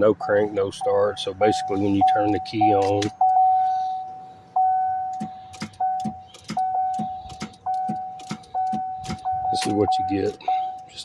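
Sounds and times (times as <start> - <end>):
dashboard warning chime dinging: 0.0 - 11.0.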